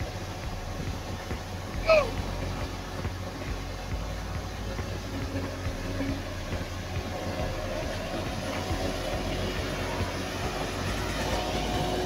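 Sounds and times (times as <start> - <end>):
heavy vehicle engines droning: 0.0 - 12.0.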